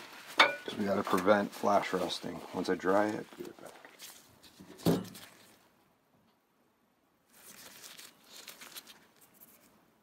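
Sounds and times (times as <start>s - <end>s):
gloved hands rustling: 0.0s - 5.8s, 7.2s - 10.0s.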